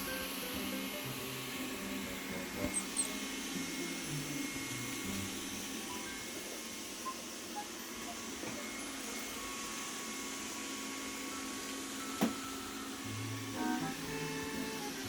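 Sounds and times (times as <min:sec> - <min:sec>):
robot vacuum cleaner humming: 0:00.0 - 0:15.0.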